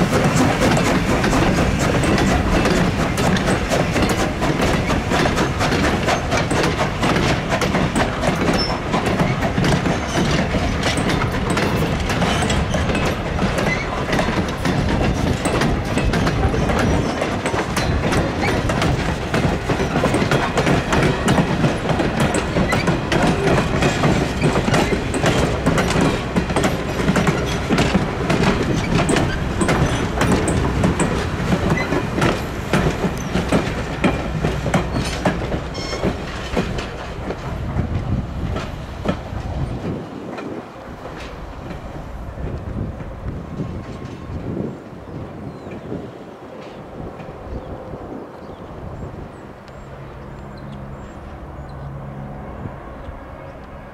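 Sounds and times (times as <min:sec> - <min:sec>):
train wheels clattering over rail joints: 0:00.0 - 0:47.7.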